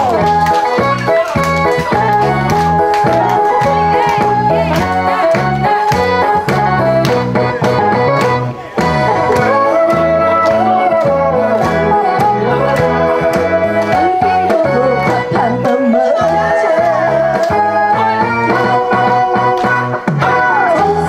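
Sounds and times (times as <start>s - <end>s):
trot backing music with beat: 0.0s - 21.0s.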